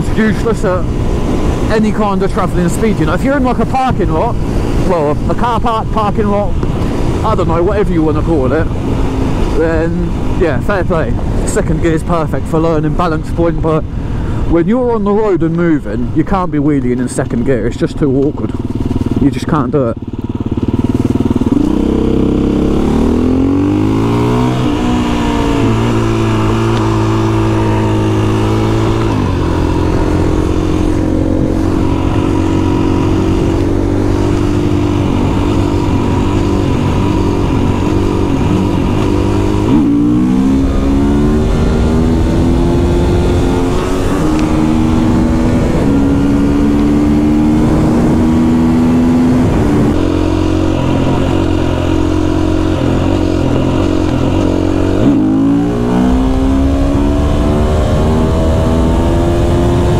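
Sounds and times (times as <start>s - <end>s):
motorcycle engine revving: 0.0s - 13.1s, 18.1s - 59.9s.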